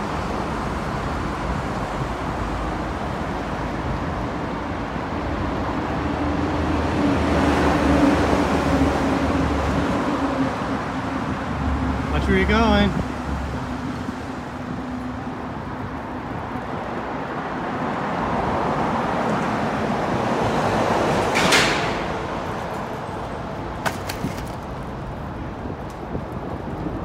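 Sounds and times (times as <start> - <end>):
passing road traffic: 0.0 - 27.0.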